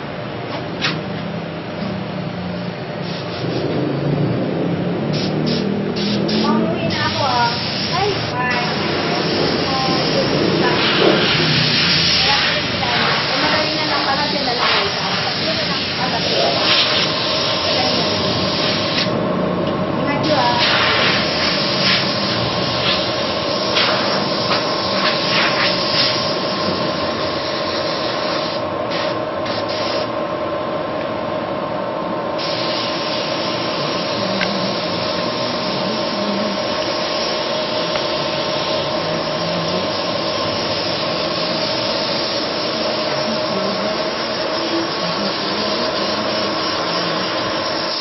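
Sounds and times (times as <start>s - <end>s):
machinery hiss and hum: 0.0s - 48.0s.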